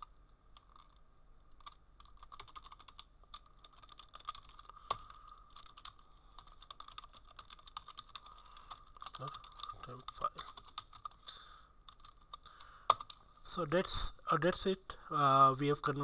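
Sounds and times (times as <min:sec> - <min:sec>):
keyboard typing: 0:00.0 - 0:13.2
faint steady background tone: 0:00.0 - 0:16.0.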